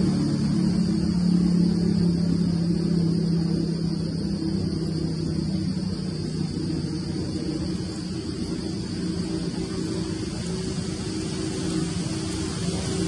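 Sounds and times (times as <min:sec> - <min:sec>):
constant high hiss: 0:00.0 - 0:13.0
low mechanical drone: 0:00.0 - 0:13.0.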